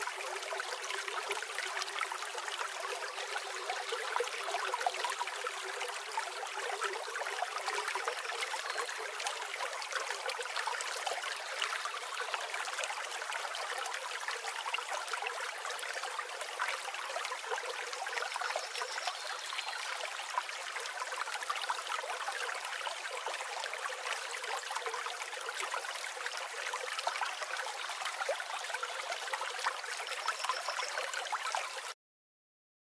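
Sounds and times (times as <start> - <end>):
creek water babbling: 0.0 - 31.9.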